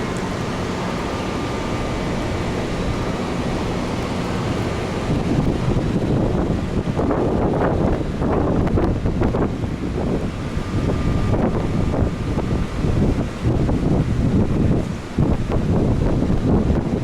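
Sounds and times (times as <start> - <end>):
strong wind blowing: 0.0 - 17.0
wind buffeting microphone: 0.0 - 17.0.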